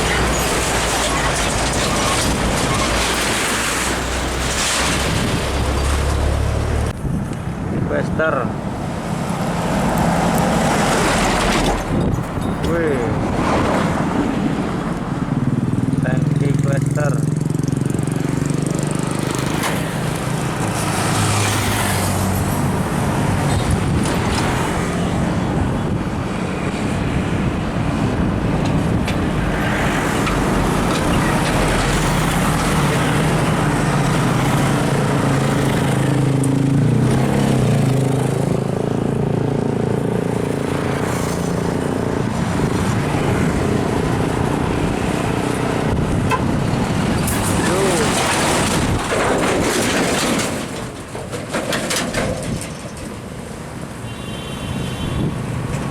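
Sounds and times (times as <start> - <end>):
trucks passing: 0.0 - 55.9.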